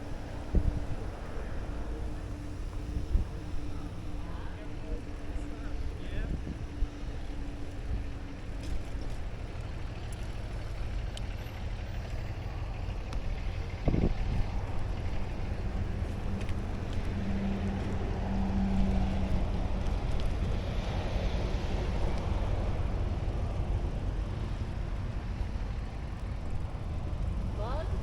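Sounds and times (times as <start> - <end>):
wind buffeting microphone: 0.0 - 9.6, 12.5 - 28.0
bicycle tyre and riding noise: 0.0 - 28.0.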